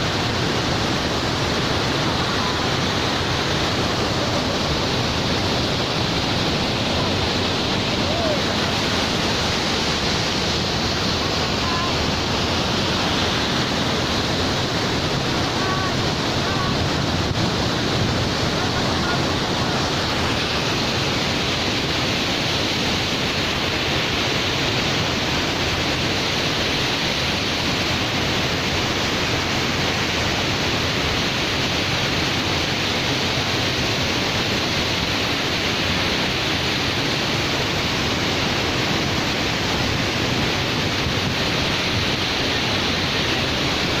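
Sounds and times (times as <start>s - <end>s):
waterfall pouring: 0.0s - 44.0s.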